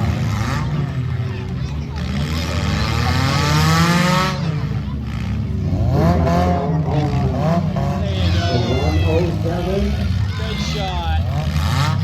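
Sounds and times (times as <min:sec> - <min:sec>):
car engines revving hard: 0:00.0 - 0:12.0
engines running steadily: 0:00.0 - 0:12.0.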